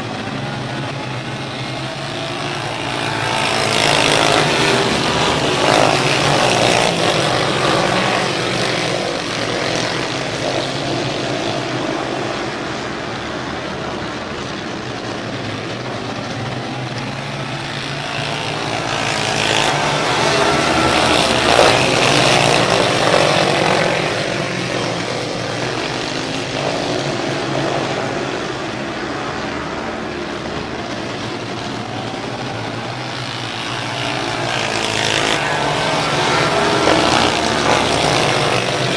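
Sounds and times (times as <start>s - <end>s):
racing kart engines passing: 0.0s - 38.9s.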